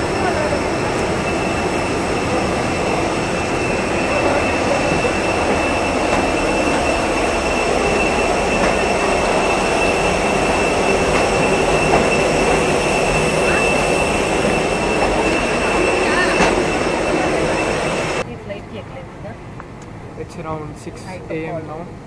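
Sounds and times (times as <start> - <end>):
high-pitched whine: 0.0 - 18.3.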